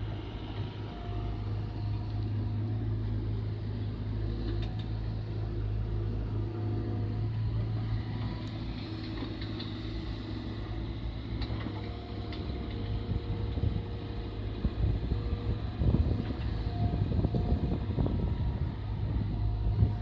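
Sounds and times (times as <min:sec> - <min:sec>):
excavator engine humming: 0:00.0 - 0:20.0.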